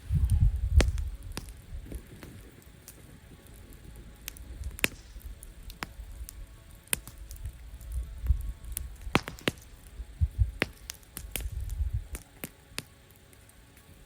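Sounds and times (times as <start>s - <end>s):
low rumble: 0.0s - 12.2s
wood fire crackling and popping: 0.0s - 14.0s.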